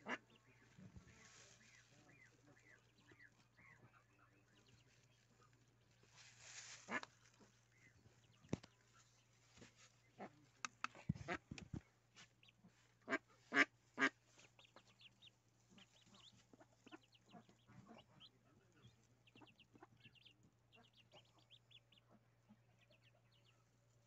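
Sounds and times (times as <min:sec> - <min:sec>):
ducklings peeping: 0:00.0 - 0:24.0.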